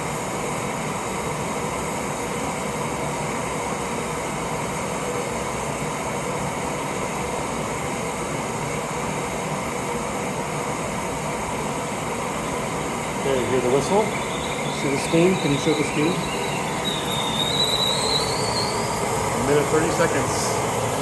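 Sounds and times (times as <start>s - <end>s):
gas stove burner roaring: 0.0s - 21.0s.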